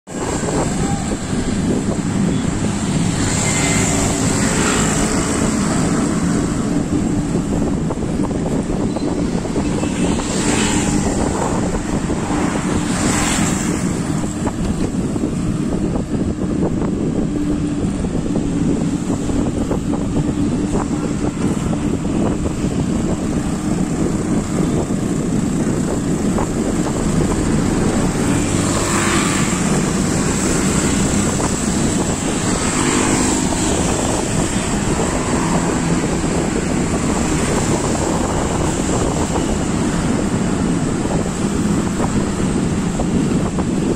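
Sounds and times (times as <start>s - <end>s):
motor traffic: 0.0s - 43.9s
road noise: 0.0s - 43.9s
vehicles passing close by: 0.0s - 43.9s
wind rush on microphone: 0.0s - 43.9s.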